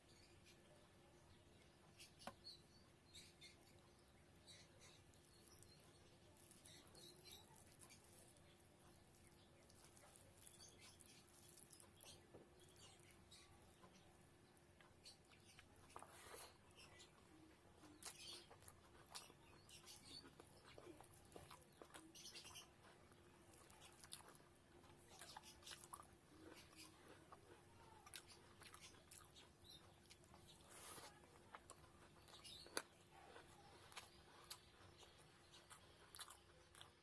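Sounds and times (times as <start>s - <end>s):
person chewing: 4.5s - 37.0s.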